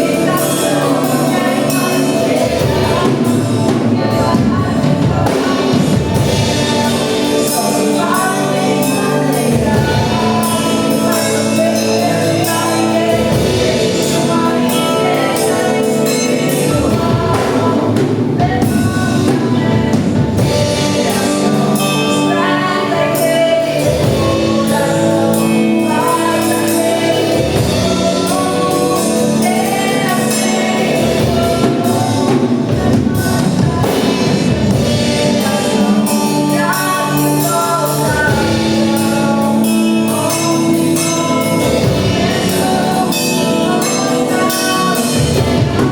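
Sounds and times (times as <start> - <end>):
band playing: 0.0 - 45.9
drums: 0.0 - 45.9
gospel singers: 0.0 - 45.9.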